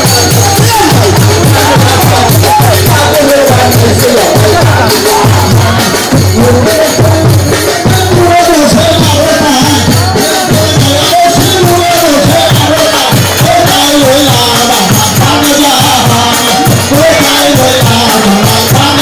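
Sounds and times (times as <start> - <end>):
drum beating quickly: 0.0 - 19.0.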